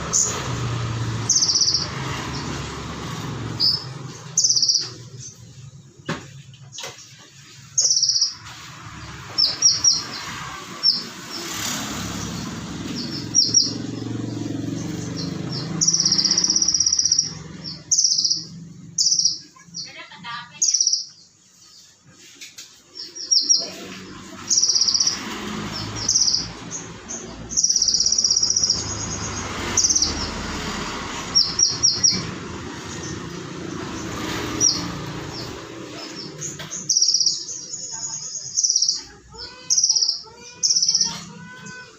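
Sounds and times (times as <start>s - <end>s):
sunbird chirping and trilling: 0.0s - 41.9s.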